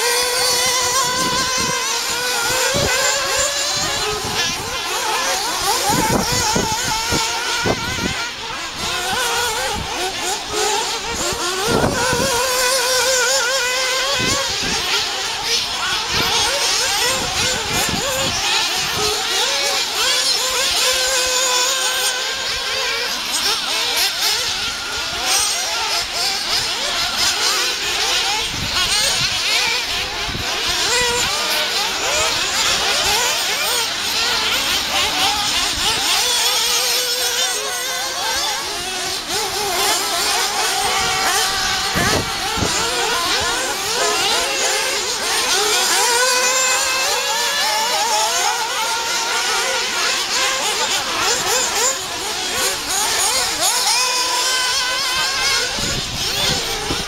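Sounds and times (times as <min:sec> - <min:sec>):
small engines revving: 0:00.0 - 0:57.0.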